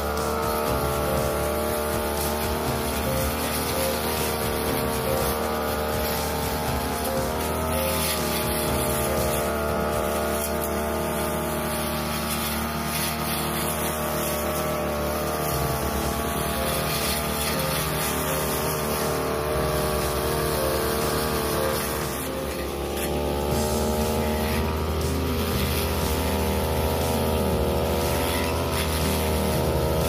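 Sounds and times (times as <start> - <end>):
brush cutter cutting grass: 0.0 - 30.0.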